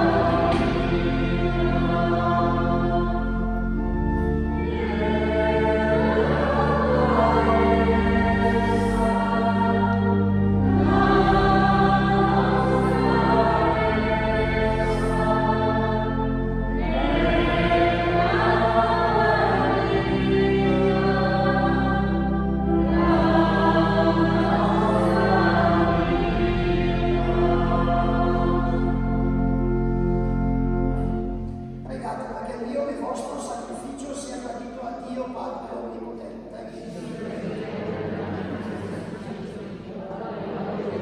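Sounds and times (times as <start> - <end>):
choir singing slow hymn: 0.0 - 31.8, 35.3 - 41.0
sustained accompanying chords: 0.0 - 41.0.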